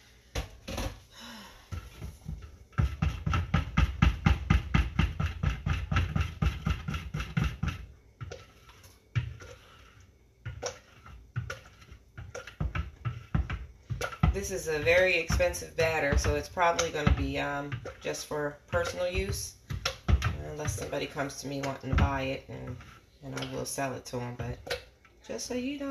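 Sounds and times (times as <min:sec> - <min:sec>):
stick blender churning: 0:01.6 - 0:25.9.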